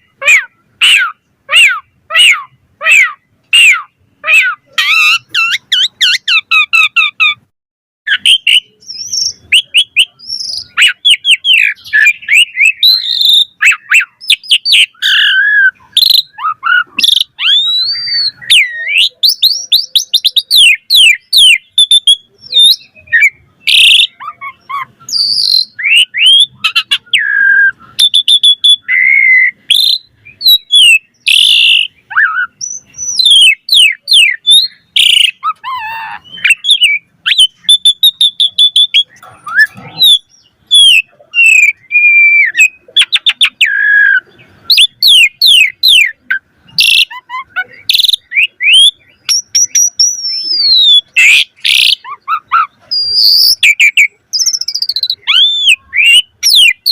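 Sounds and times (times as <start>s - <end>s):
bird singing varied song: 0.0s - 7.5s, 8.1s - 56.9s.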